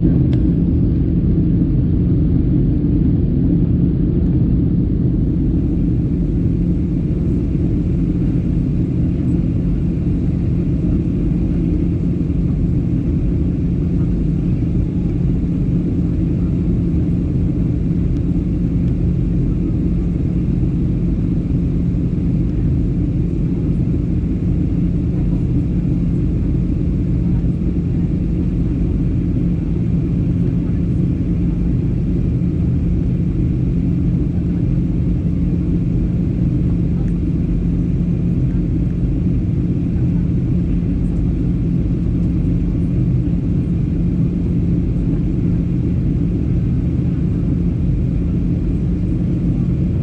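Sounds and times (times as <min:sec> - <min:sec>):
airliner cabin drone: 0:00.0 - 0:50.0.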